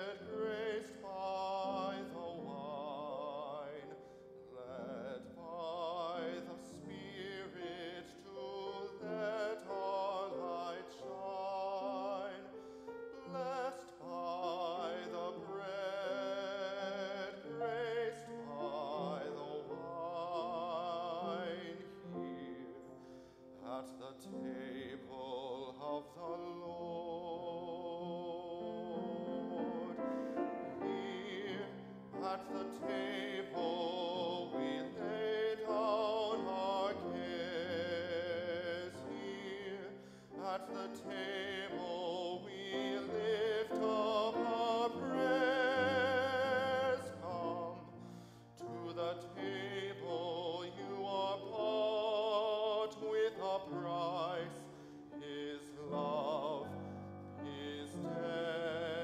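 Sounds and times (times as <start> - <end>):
grand piano: 0.0 - 59.0
man singing with vibrato: 0.0 - 59.0.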